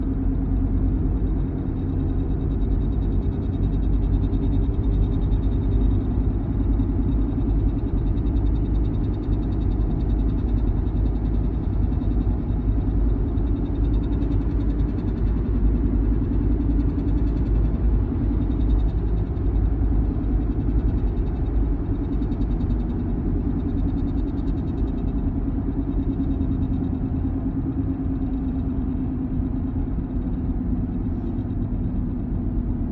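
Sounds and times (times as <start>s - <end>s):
car low rumble with drone: 0.0s - 32.9s.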